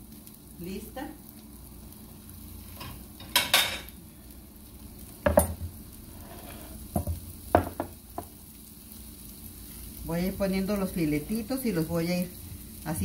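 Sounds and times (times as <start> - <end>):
green beans sizzling in pan: 0.0 - 13.0.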